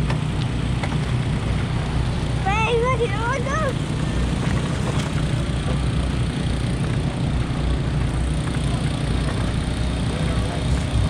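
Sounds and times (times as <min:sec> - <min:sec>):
go-kart engine idling: 0:00.0 - 0:11.0.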